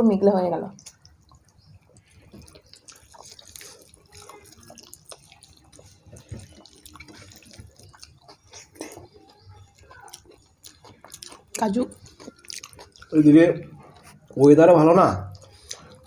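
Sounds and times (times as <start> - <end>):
chewing and lip smacks: 0.7 - 16.0.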